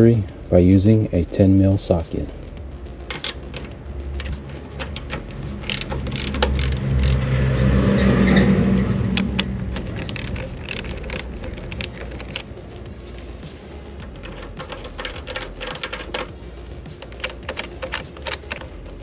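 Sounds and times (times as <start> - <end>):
low steady hum: 0.0 - 19.0
ratchet wrench clicking: 2.4 - 19.0.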